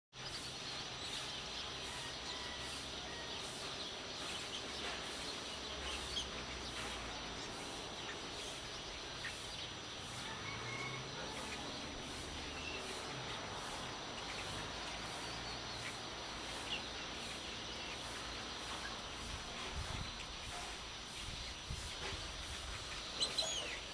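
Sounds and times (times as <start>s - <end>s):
faint bird chirps: 0.2s - 23.9s
steady background hiss: 0.2s - 23.9s.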